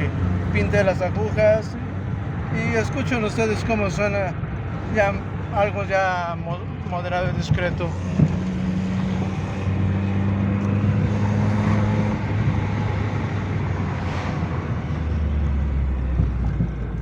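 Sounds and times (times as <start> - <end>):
car engine and exhaust running: 0.0 - 17.0.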